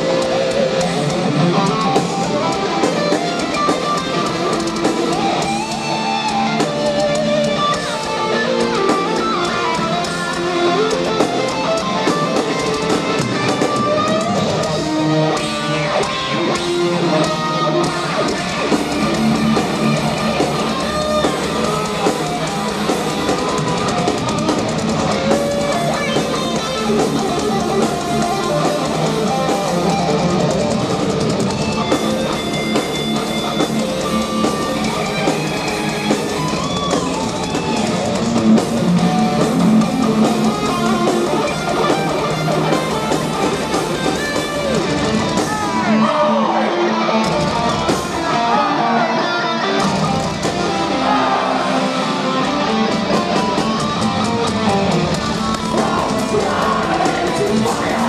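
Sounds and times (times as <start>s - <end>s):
driving drum kit: 0.0s - 46.6s, 47.2s - 58.0s
distorted electric guitars: 0.0s - 58.0s.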